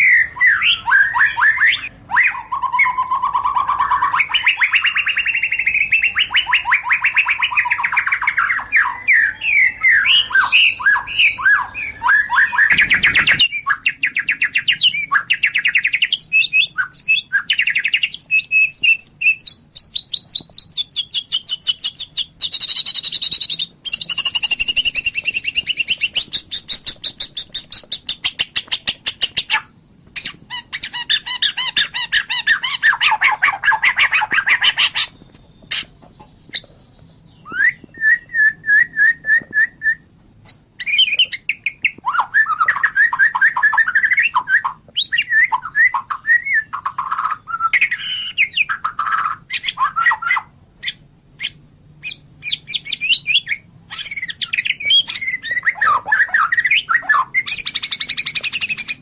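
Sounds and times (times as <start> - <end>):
bird singing with trills: 0.0 - 59.0.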